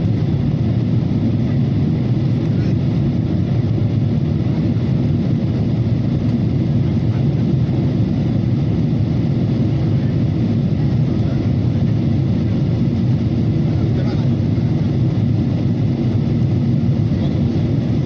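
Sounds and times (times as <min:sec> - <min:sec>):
airliner cabin engine rush: 0:00.0 - 0:18.0.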